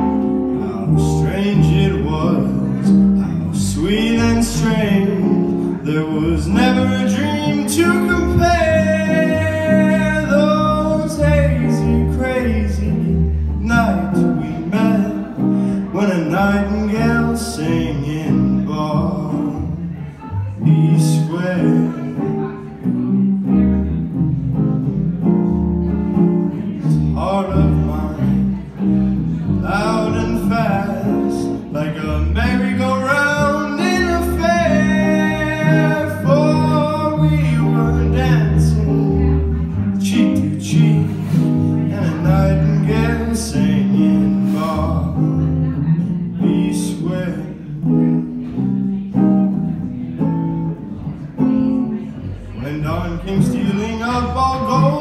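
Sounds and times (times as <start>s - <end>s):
electric guitars playing jazz: 0.0s - 55.0s
plucked upright bass: 0.0s - 55.0s.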